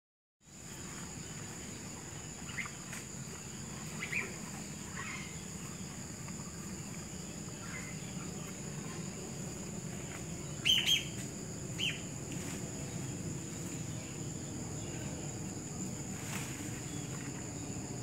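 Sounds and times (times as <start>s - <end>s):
low steady rumble: 0.6s - 18.0s.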